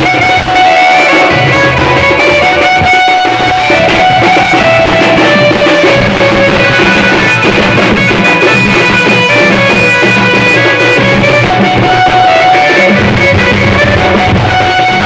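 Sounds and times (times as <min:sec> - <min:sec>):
drums beaten with sticks: 0:00.0 - 0:15.0
held melody line: 0:00.0 - 0:15.0.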